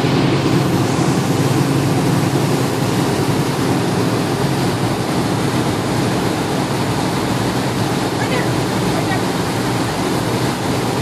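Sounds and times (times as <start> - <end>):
churning water rushing: 0.0 - 11.0
motorboat engine drone: 0.0 - 11.0.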